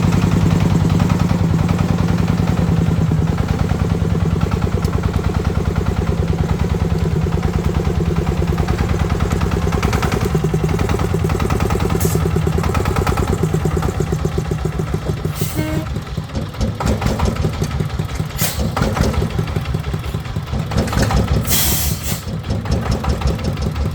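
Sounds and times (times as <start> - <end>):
tractor engine chugging: 0.0 - 23.9.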